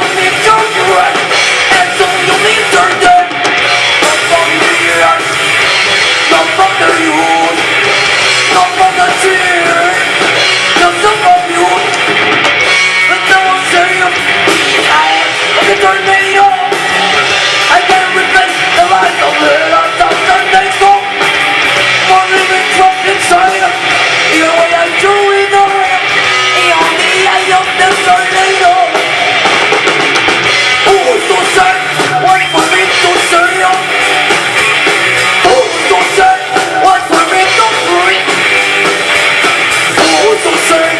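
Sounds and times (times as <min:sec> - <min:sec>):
person singing: 0:00.0 - 0:05.6, 0:06.2 - 0:12.2, 0:13.0 - 0:29.5, 0:30.8 - 0:34.4, 0:35.2 - 0:38.6, 0:39.9 - 0:40.9
drum kit: 0:00.0 - 0:40.9
electric guitar: 0:00.0 - 0:40.9.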